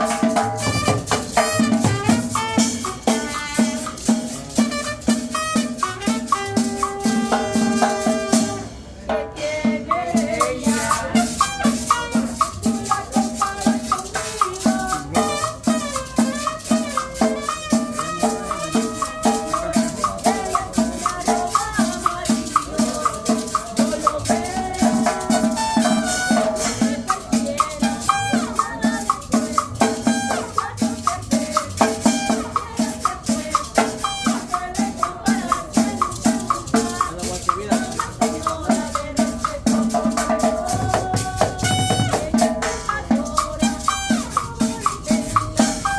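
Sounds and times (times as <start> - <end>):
shaken rattle: 0.0 - 8.4, 9.9 - 45.9
live band playing cumbia: 0.0 - 45.9
steady drum beat: 0.0 - 45.9.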